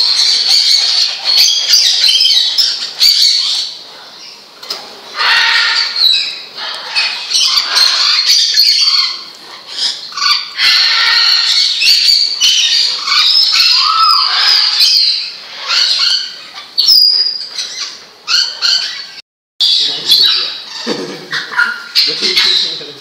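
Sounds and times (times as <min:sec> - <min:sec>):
parrots squawking and whistling: 0:00.0 - 0:23.0.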